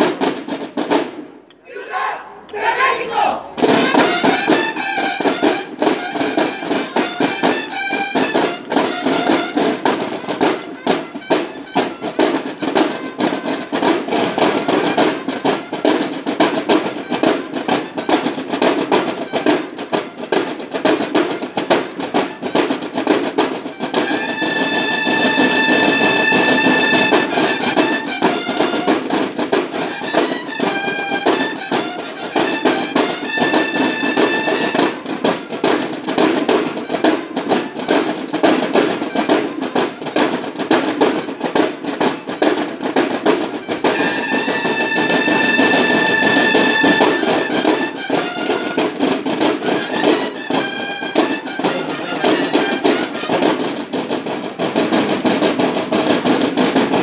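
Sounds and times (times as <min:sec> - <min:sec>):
bugles playing: 0:00.0 - 0:57.0
snare drums beating: 0:00.0 - 0:57.0.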